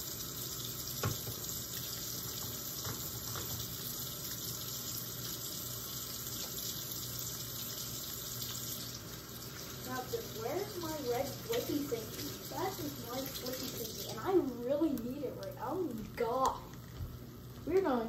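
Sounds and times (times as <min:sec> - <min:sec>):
tap water running into sink: 0:00.0 - 0:15.5.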